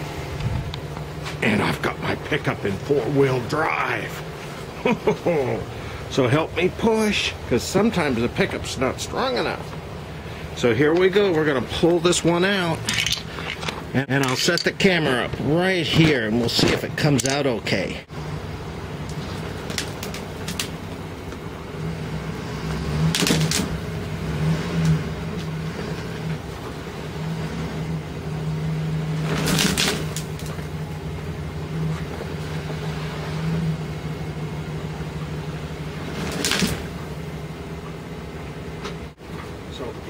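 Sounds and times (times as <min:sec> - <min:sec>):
truck engine straining: 0:00.0 - 0:40.0.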